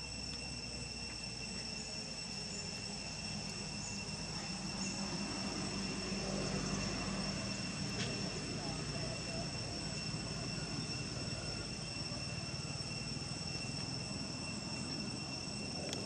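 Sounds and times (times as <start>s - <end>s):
high-pitched insect drone: 0.0s - 16.0s
low engine rumble: 0.0s - 16.0s.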